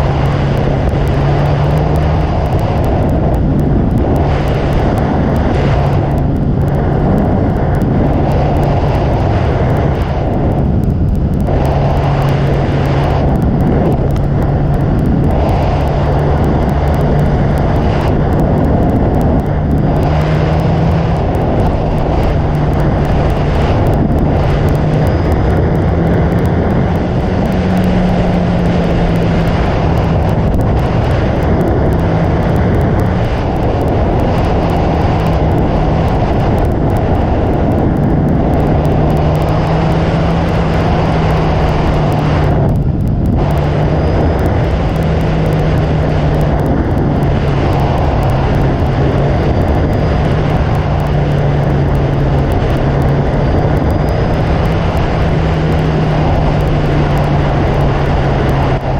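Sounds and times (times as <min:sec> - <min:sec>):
motorcycle engine running: 0:00.0 - 0:58.9
wind rushing: 0:00.0 - 0:58.9.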